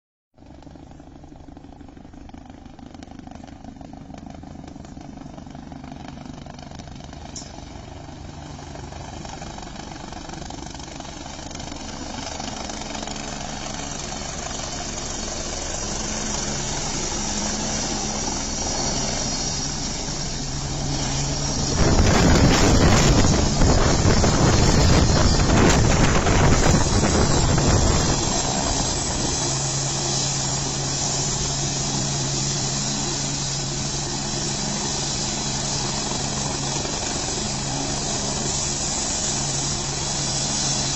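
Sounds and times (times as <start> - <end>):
helicopter engine and rotors: 0.4 - 40.9.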